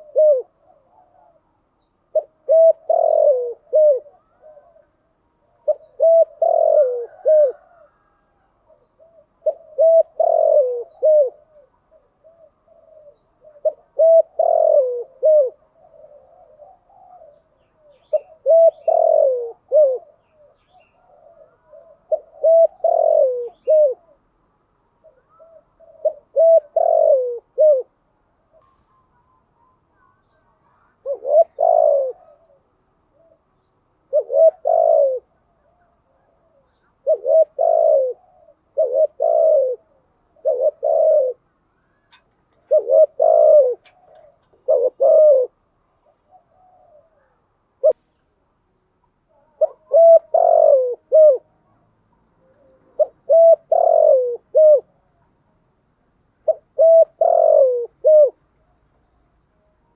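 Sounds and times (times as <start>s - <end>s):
dove cooing: 0.0s - 48.0s, 49.2s - 55.3s, 56.4s - 58.7s.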